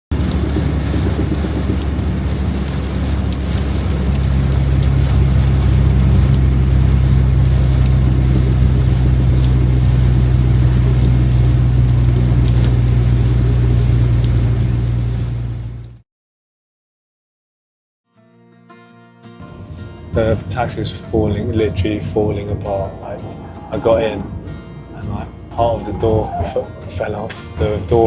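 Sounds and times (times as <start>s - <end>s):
car engine drone: 0.1s - 16.0s, 19.4s - 28.0s
road rumble: 0.1s - 16.0s, 19.5s - 28.0s.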